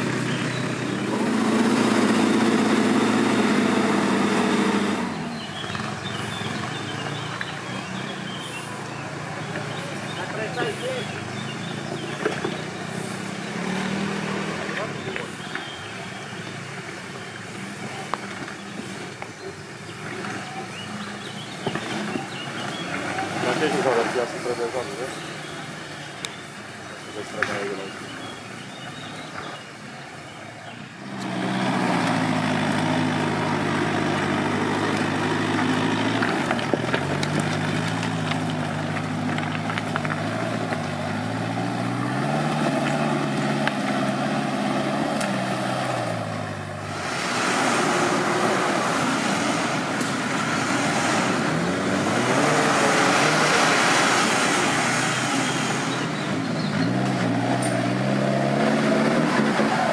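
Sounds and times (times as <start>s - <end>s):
engine revving: 0.0s - 29.5s, 30.9s - 59.9s
tyres rushing through mud: 0.0s - 59.9s.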